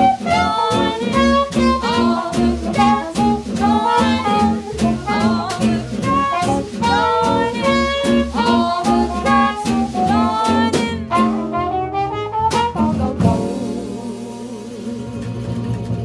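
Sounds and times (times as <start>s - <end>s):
trumpet melody: 0.0s - 15.3s
double bass: 0.0s - 16.0s
drums: 0.0s - 16.0s
gypsy jazz guitar: 0.0s - 16.0s.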